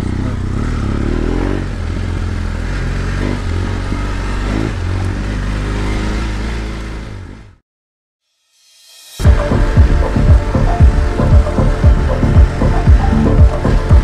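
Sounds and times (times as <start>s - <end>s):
motorcycle engine running: 0.0s - 7.6s, 9.2s - 14.0s.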